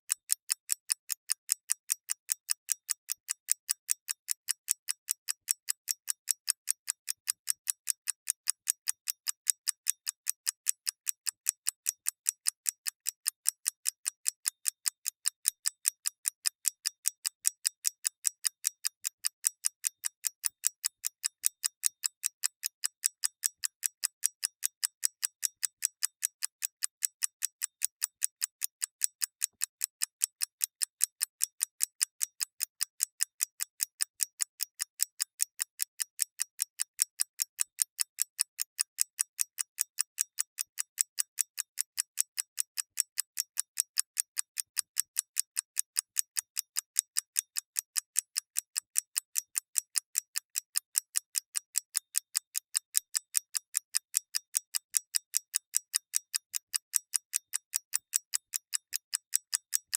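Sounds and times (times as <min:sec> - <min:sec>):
clock ticking: 0:00.1 - 0:59.9.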